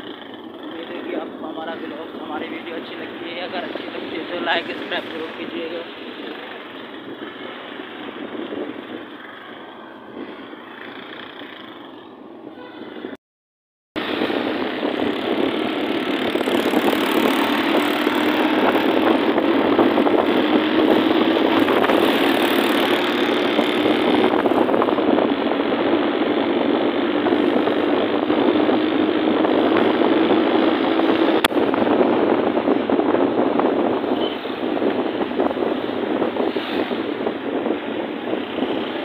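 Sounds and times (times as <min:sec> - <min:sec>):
engine hum: 0:00.0 - 0:12.3, 0:14.0 - 0:39.0
road and wind noise: 0:00.0 - 0:13.2, 0:14.0 - 0:39.0.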